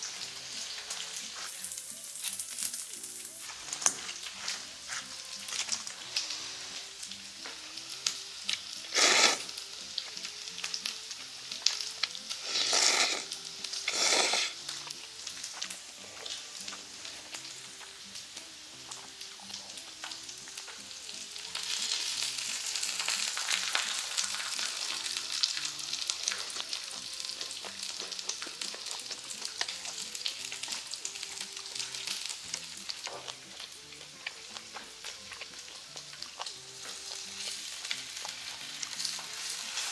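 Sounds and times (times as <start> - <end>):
meat sizzling on a griddle: 0.0 - 39.9.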